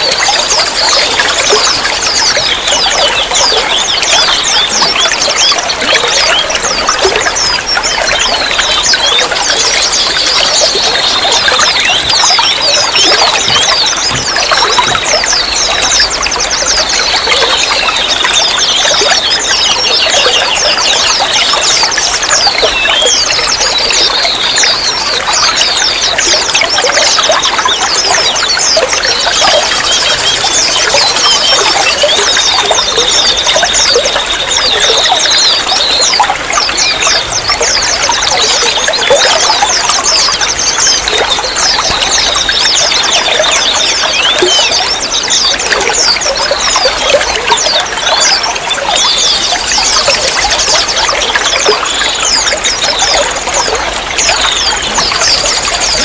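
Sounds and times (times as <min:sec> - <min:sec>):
bubbling drips: 0:00.0 - 0:56.0
water trickling and splashing: 0:00.0 - 0:56.0.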